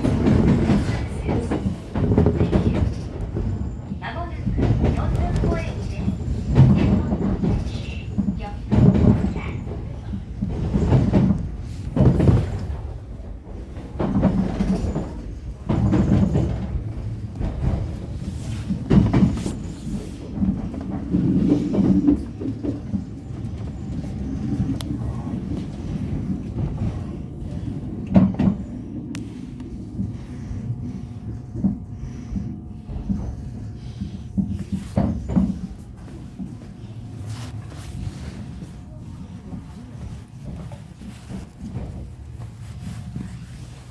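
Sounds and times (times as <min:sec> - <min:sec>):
train wheels knocking on rail joints: 0:00.0 - 0:37.0.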